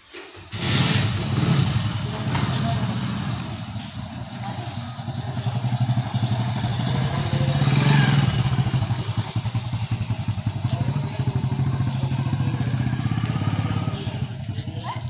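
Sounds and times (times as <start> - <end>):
motorcycle engine pulling away: 0.4 - 15.0.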